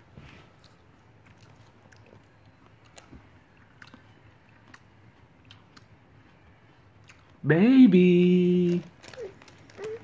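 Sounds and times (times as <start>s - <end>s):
toddler chewing grapes: 0.0s - 7.4s, 8.6s - 10.0s.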